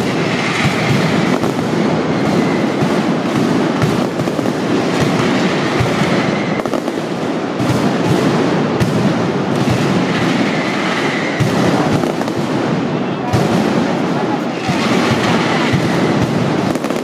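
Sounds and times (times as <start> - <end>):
firecrackers barrage: 0.0 - 17.0.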